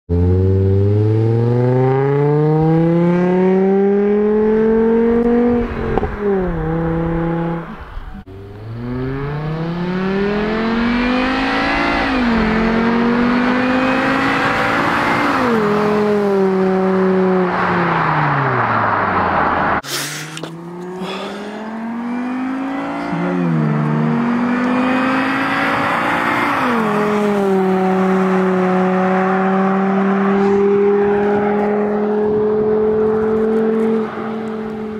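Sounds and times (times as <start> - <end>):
car engine accelerating: 0.1 - 34.9.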